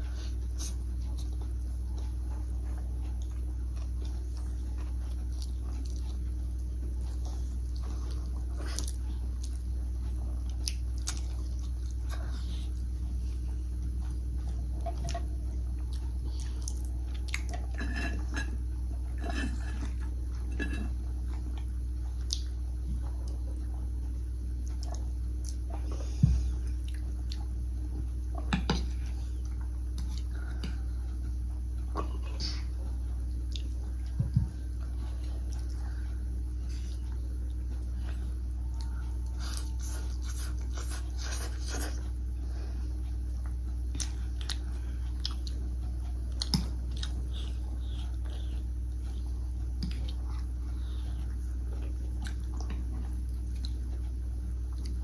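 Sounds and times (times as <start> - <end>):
chewing: 0.0 - 55.0
steady low hum: 0.0 - 55.0.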